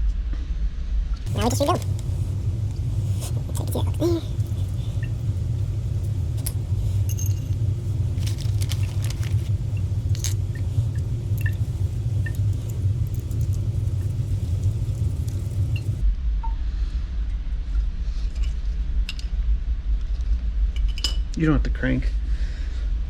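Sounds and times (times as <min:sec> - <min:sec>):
steady low rumble: 0:00.1 - 0:23.0.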